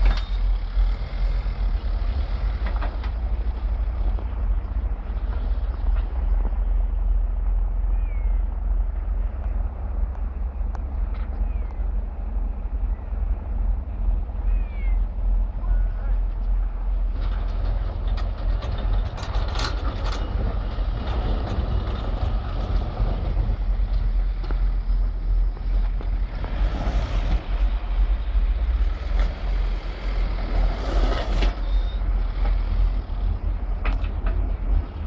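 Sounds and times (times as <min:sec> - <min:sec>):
vehicle engine rumbling: 0:00.0 - 0:35.0.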